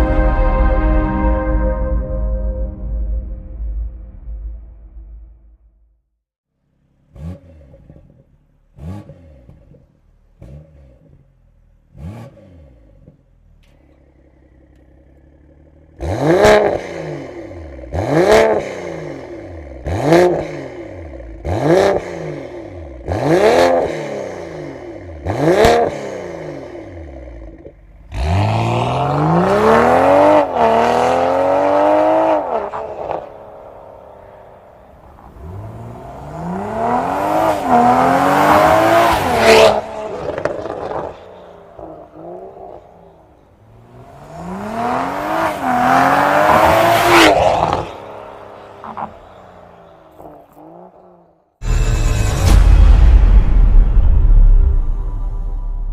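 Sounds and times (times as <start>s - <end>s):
car engine revving: 6.6s - 55.9s.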